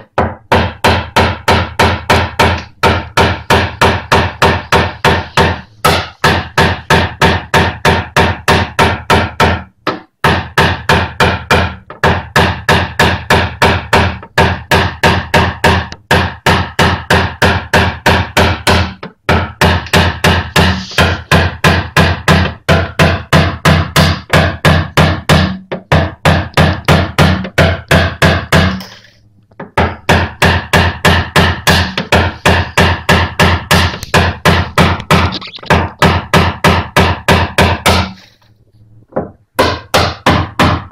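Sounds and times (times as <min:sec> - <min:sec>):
hammer tapping punch on metal: 0:00.0 - 0:28.9, 0:29.6 - 0:38.3, 0:39.6 - 0:40.9.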